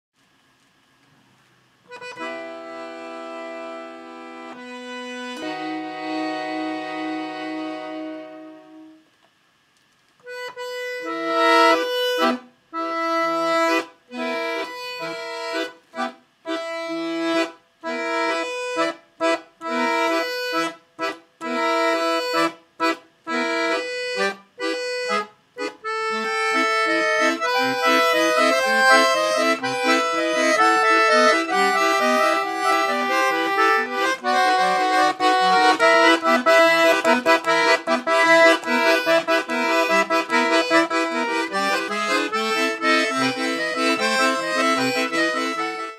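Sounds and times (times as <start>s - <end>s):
accordion music: 1.9s - 9.1s, 10.2s - 45.9s.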